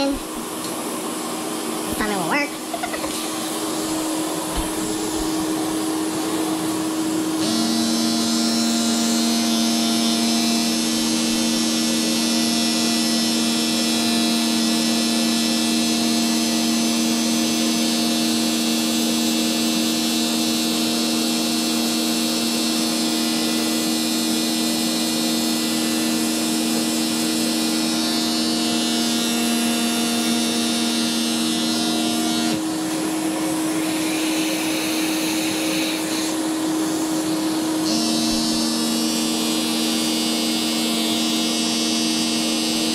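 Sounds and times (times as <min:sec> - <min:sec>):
vacuum cleaner motor humming: 0:00.0 - 0:42.9.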